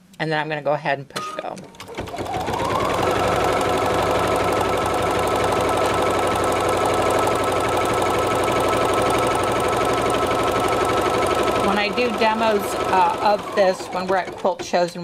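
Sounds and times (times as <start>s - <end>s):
embroidery machine running: 1.7s - 15.0s.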